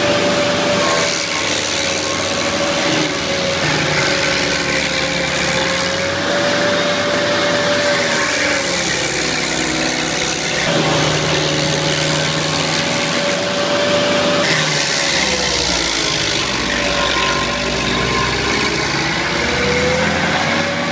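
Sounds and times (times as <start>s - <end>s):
stump grinder grinding: 0.0s - 20.9s.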